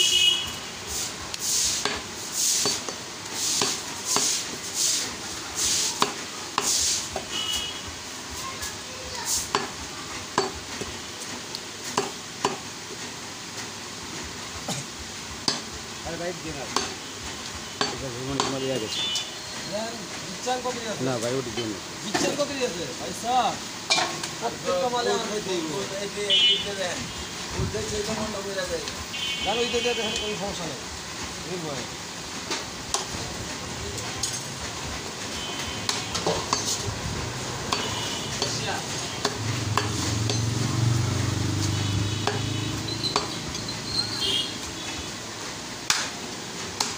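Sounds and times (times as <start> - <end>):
steady hiss: 0.0 - 46.9.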